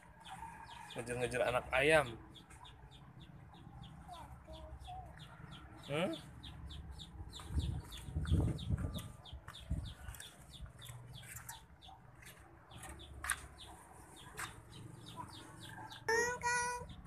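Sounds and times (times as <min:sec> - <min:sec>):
chicks peeping: 0:00.2 - 0:16.2.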